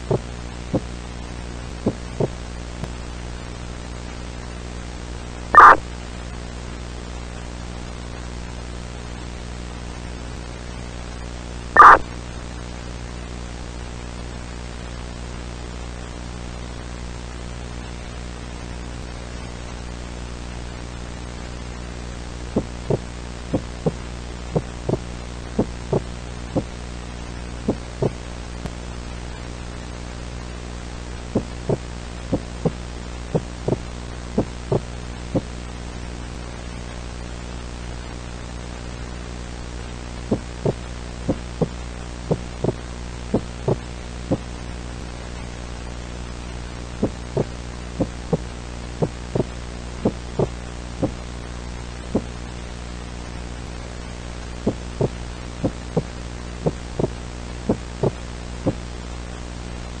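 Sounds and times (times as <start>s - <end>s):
low electronic hum: 0.0s - 60.0s.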